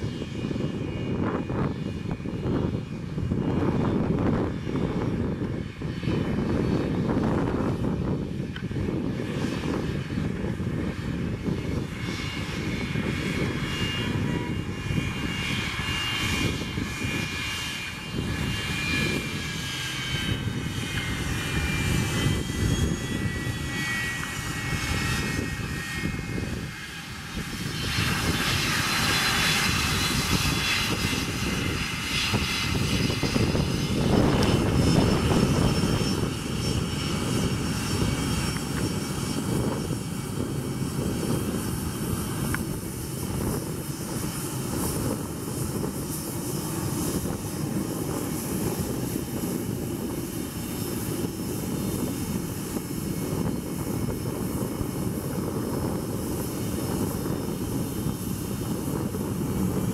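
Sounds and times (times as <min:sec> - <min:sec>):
jet engines whistling at taxi power: 0:00.0 - 0:59.9.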